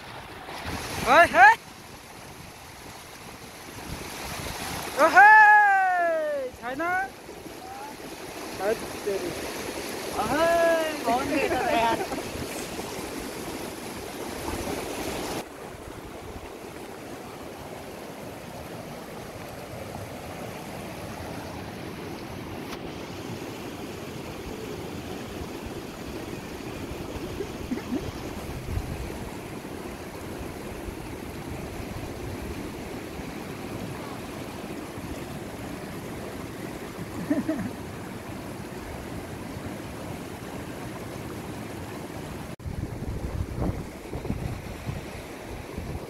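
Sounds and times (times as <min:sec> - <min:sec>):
river rushing over rocks: 0:00.0 - 0:46.0.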